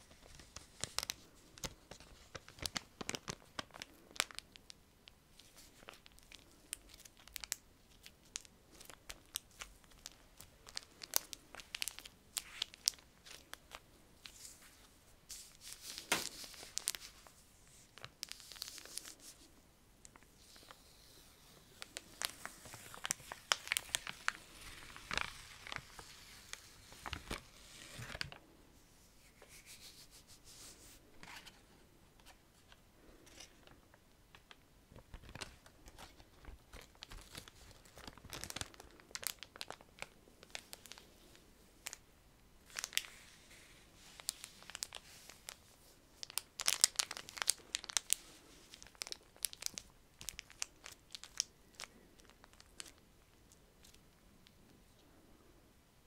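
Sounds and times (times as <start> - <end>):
sticky paper crackling and rustling: 0.0 - 28.4, 29.2 - 42.0, 42.6 - 54.6.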